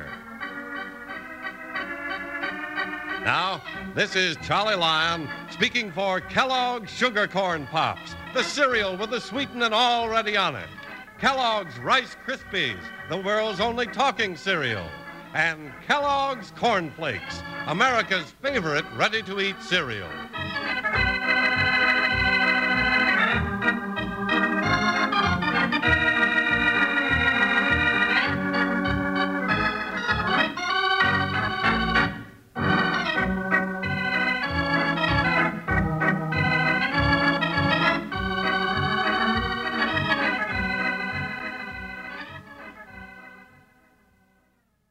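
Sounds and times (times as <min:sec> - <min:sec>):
organ music: 0:00.0 - 0:44.9.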